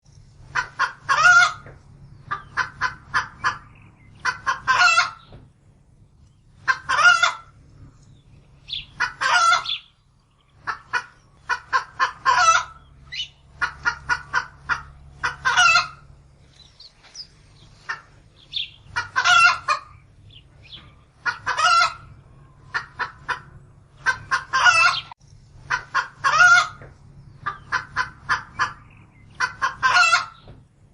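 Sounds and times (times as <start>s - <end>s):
hen alarm cackling: 0.4s - 30.6s.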